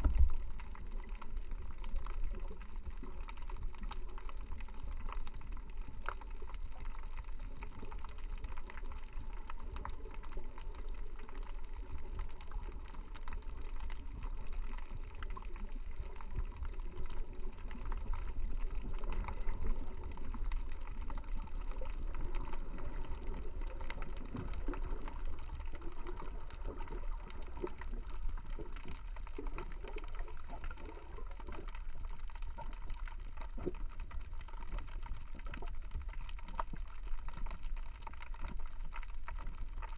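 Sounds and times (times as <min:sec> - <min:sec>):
muffled underwater rumble: 0:00.0 - 0:39.9
small clicks and crackles: 0:00.0 - 0:39.9.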